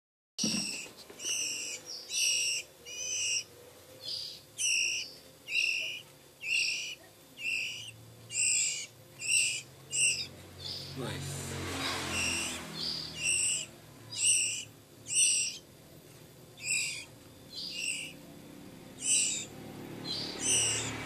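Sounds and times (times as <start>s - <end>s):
bird chick begging calls: 0.4s - 15.7s, 16.6s - 21.0s.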